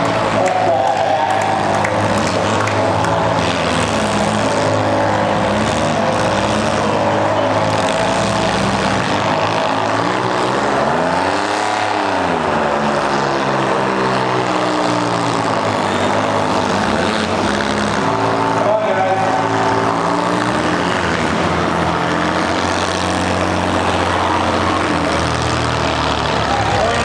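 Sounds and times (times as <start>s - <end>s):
car engines running and revving: 0.0s - 27.0s.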